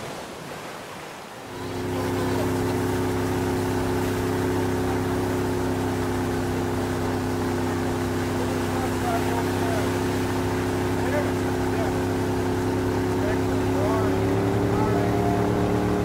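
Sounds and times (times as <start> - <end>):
hiss of wind and water: 0.0 - 16.0
outboard engine drone: 0.0 - 16.0.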